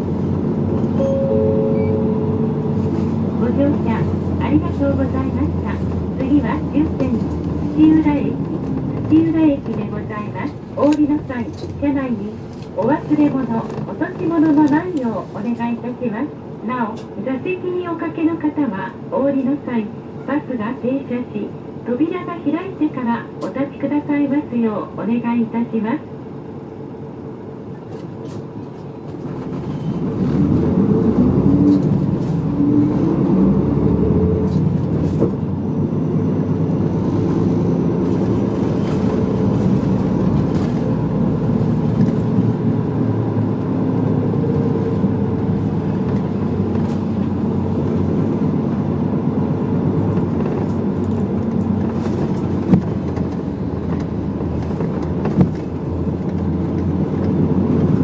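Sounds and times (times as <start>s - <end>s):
bus engine from inside: 0.0s - 58.0s.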